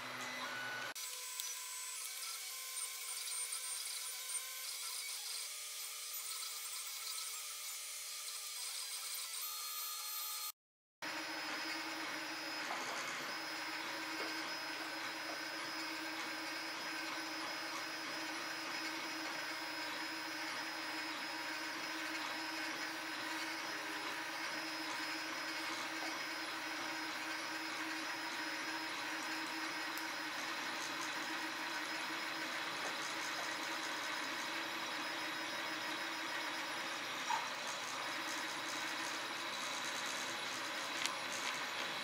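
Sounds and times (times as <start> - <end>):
printer stepper motors whirring: 0.0 - 10.4, 11.0 - 42.0.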